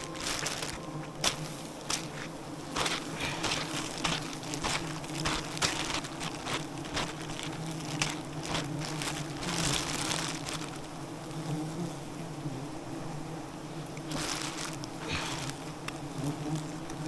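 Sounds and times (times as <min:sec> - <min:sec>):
sharp crackles: 0:00.0 - 0:11.0, 0:14.1 - 0:16.8
rustling: 0:00.0 - 0:11.6, 0:14.0 - 0:17.0
swarm of bees buzzing: 0:00.0 - 0:17.0.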